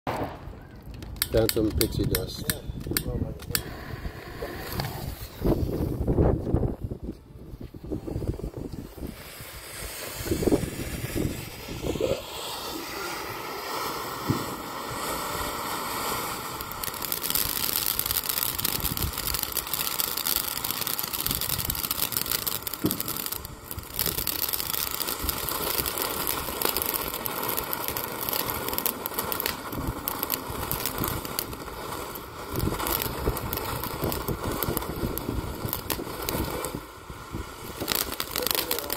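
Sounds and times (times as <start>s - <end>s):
fine crackling of sparks: 0.1s - 38.9s
firework fountain hissing: 0.1s - 38.9s.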